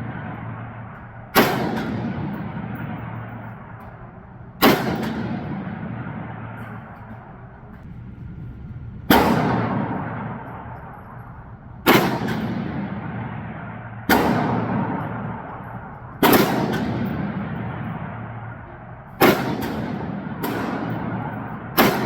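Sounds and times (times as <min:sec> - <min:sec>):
rifle shots with echo: 0:00.0 - 0:07.9, 0:09.0 - 0:22.0.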